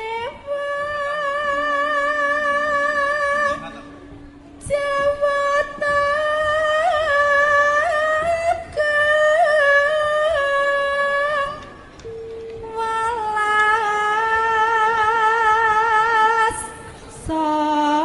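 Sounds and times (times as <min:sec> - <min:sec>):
woman singing through microphone: 0:00.0 - 0:18.0.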